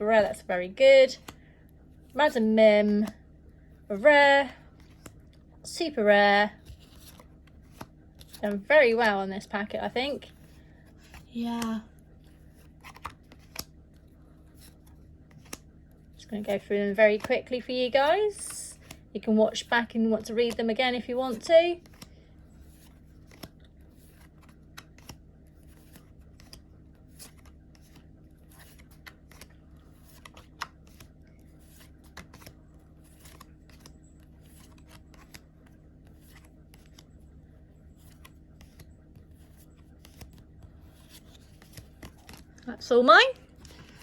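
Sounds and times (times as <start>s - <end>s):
low steady hum: 0.0s - 44.0s
cards clicking and rustling: 4.7s - 5.5s, 6.5s - 15.7s, 16.3s - 42.7s, 43.3s - 44.0s.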